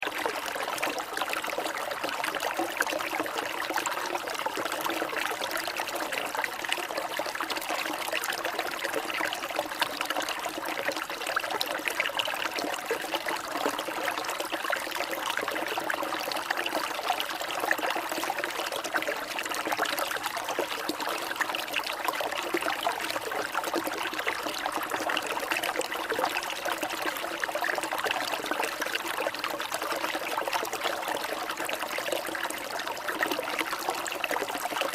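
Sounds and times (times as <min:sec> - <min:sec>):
water trickling and splashing: 0:00.0 - 0:34.9.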